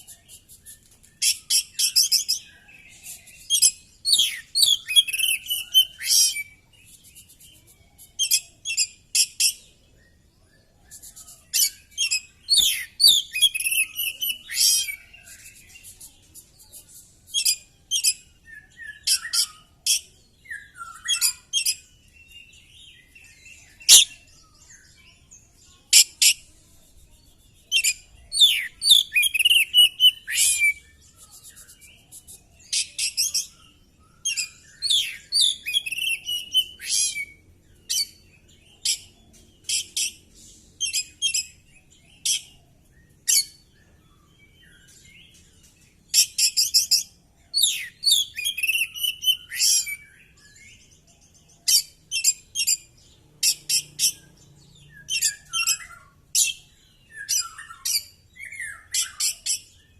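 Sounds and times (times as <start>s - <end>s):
bird singing trills and whistles: 0.0s - 59.9s.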